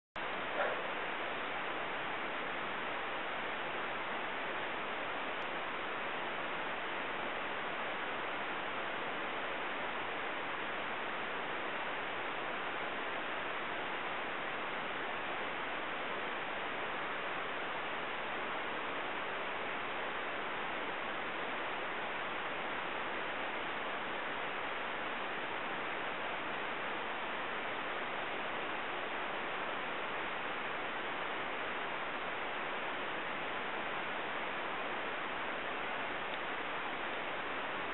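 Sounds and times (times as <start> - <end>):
steady hiss: 0.2 - 37.9.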